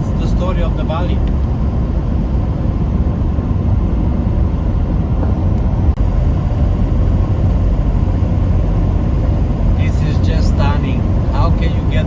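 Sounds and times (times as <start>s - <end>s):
diesel engine rumbling: 0.0s - 12.0s
tyres on highway: 0.0s - 12.0s.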